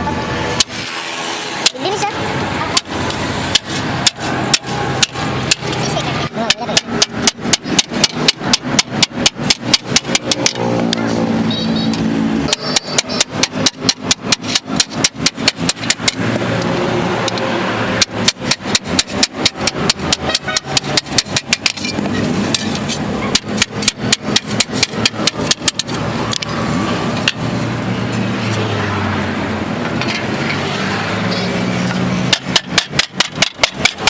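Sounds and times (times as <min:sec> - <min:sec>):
steady background noise: 0:00.0 - 0:34.0
hammer on sheet metal: 0:00.6 - 0:27.5, 0:29.9 - 0:34.0.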